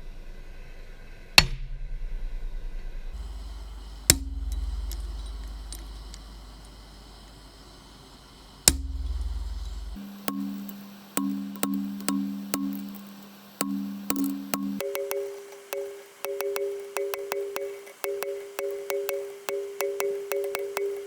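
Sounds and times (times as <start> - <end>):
hammer striking steel: 3.2 - 21.0
steady low hum: 3.2 - 21.0.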